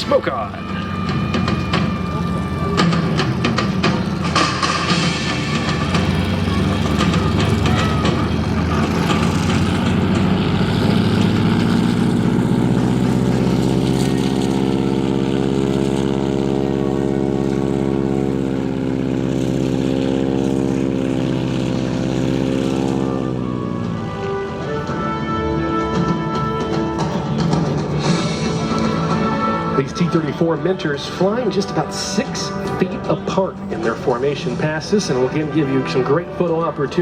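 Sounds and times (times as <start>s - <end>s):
propeller airplanes droning flyby: 0.0s - 37.0s.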